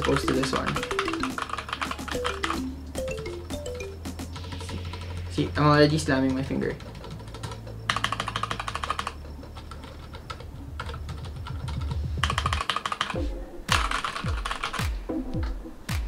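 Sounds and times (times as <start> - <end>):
mechanical keyboard typing clacks: 0.0 - 14.9.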